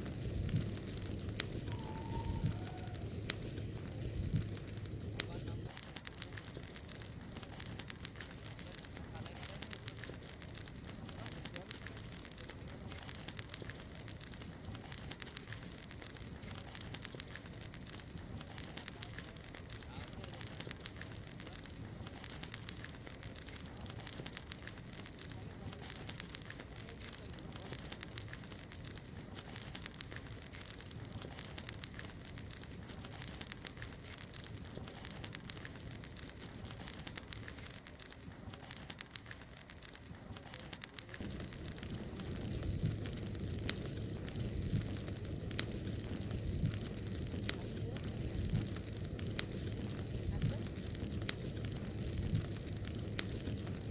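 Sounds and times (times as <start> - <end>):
bonfire crackling and popping: 0.0 - 53.9.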